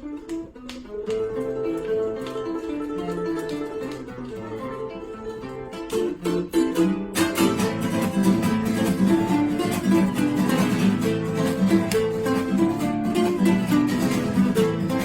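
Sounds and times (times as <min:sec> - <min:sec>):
flamenco-like acoustic guitar music: 0:00.0 - 0:15.0.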